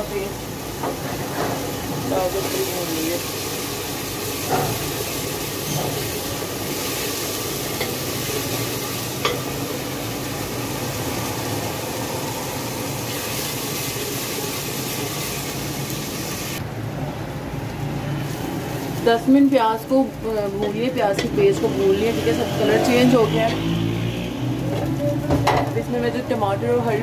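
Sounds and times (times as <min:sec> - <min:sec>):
paste sizzling in oil: 0:00.1 - 0:16.6, 0:18.1 - 0:25.0.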